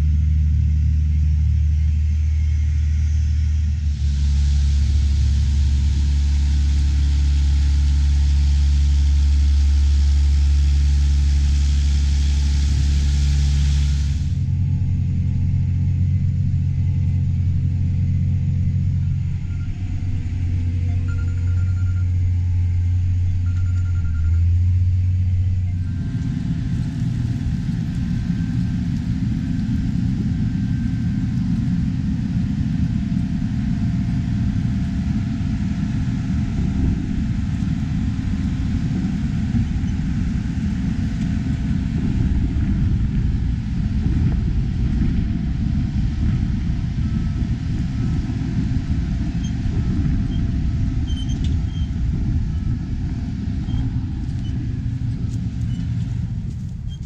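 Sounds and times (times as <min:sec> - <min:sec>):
farm machinery engine droning: 0:00.0 - 0:57.0.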